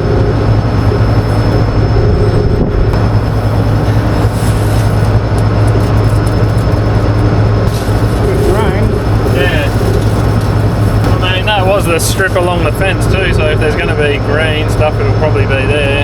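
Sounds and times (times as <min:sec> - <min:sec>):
combine harvester drone: 0:00.0 - 0:16.0
thin high whine: 0:00.0 - 0:16.0.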